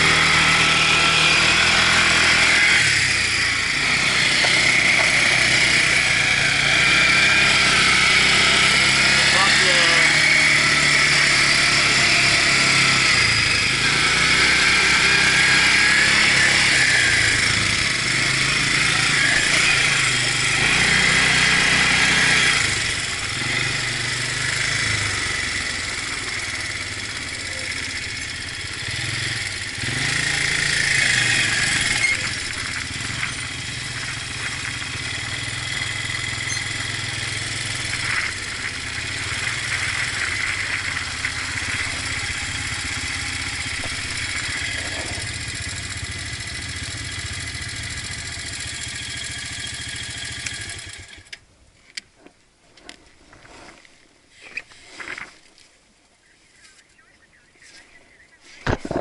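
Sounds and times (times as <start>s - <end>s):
quad bike engine running: 0.0s - 51.4s.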